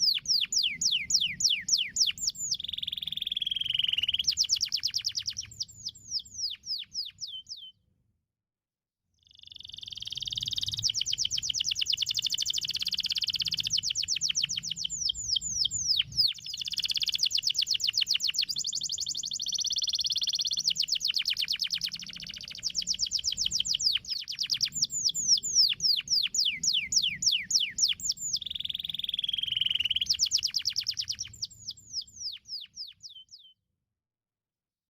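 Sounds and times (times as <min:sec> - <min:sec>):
canary singing trills: 0:00.0 - 0:07.8, 0:09.2 - 0:33.6.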